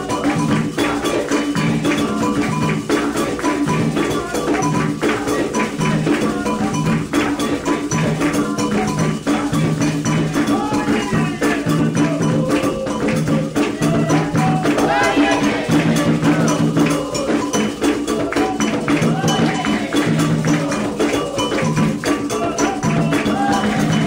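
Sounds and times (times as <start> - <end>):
hand drums in fast rhythm: 0.0 - 24.0
ringing metal bell: 0.0 - 24.0
shaken rattle: 0.0 - 24.0
voices singing a chant: 0.0 - 24.0.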